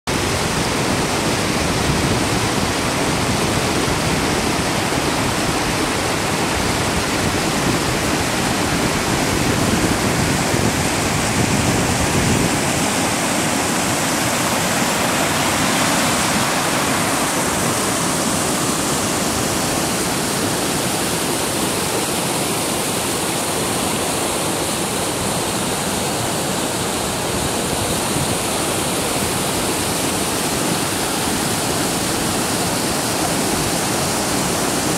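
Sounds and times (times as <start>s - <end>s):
waterfall and rapids rushing: 0.1s - 34.9s.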